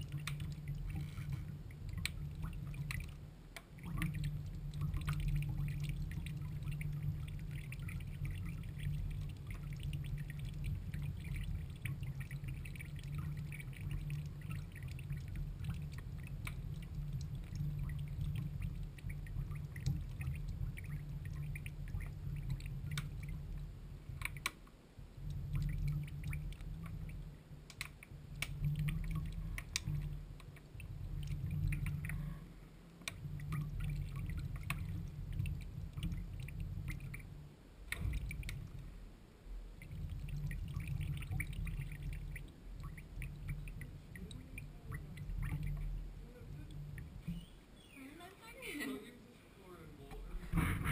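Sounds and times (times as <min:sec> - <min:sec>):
sharp drip ticks: 0:00.0 - 0:32.3, 0:32.9 - 0:38.9, 0:39.7 - 0:47.5.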